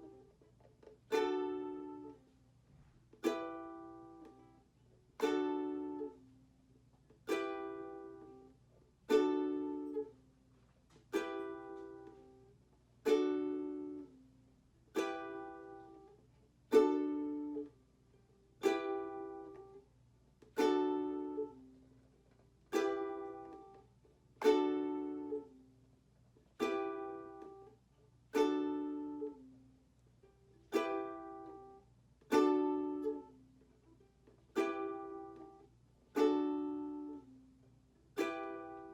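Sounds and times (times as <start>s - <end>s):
ukulele strummed: 0.0s - 2.4s, 3.0s - 38.9s.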